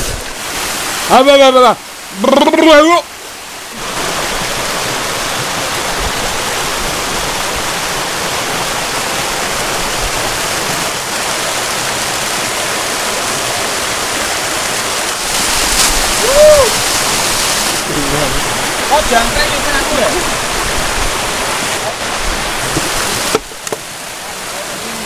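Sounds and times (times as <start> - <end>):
small waterfall rushing over rock: 0.0 - 25.0.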